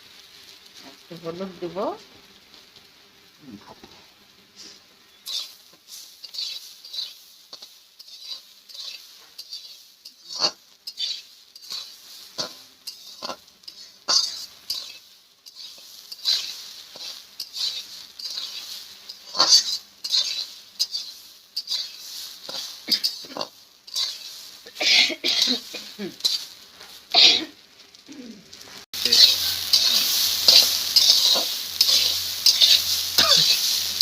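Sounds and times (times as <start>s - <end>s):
spatula scraping in frying pan: 3.6s - 34.0s.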